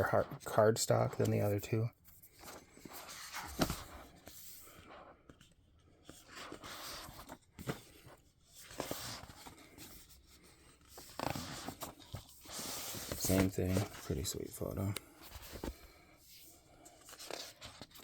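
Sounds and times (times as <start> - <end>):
pages rustling: 2.2 - 18.0.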